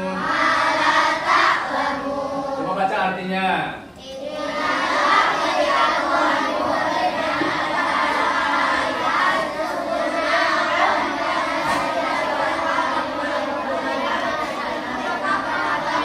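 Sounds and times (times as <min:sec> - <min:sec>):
children reading aloud in chorus: 0:00.0 - 0:03.2, 0:03.8 - 0:16.0.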